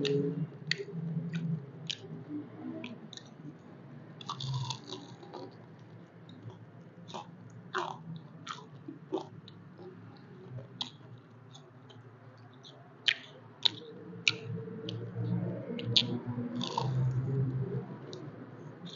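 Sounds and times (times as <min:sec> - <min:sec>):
chewing and biting chicken: 0:00.0 - 0:02.2, 0:04.2 - 0:18.9
wet mouth sounds: 0:00.0 - 0:03.6, 0:04.2 - 0:18.9.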